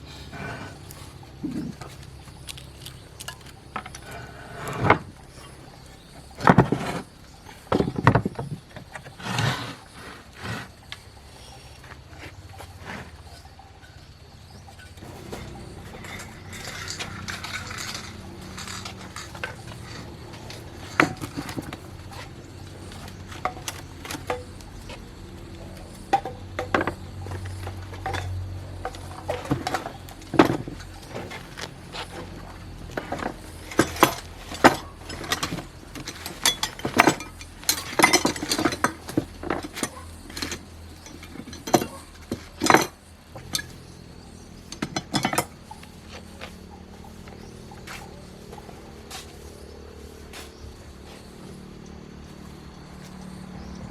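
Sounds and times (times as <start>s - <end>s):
scraping: 0.0s - 13.8s, 14.7s - 51.7s
metal tools clinking and knocking: 0.3s - 9.2s, 13.2s - 49.7s.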